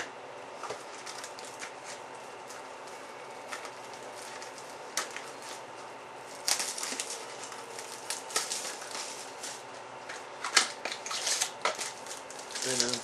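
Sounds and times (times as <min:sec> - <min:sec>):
dry rustles of card packaging: 0:00.5 - 0:13.0.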